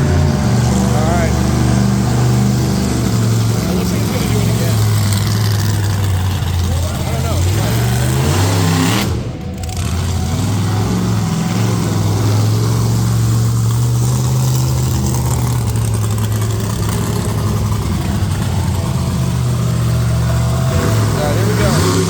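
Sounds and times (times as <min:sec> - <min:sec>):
monster truck engine running: 0:00.0 - 0:22.0.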